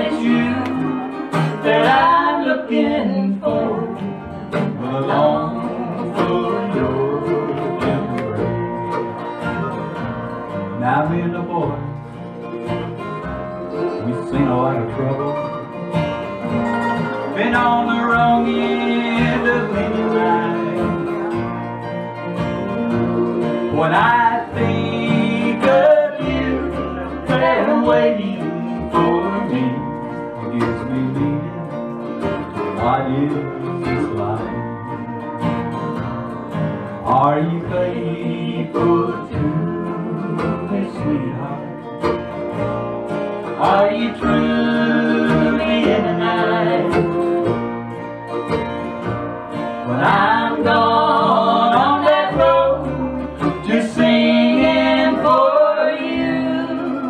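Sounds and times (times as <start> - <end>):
acoustic guitar: 0.0 - 57.0
electric guitar: 0.0 - 57.0
upright bass: 0.0 - 57.0.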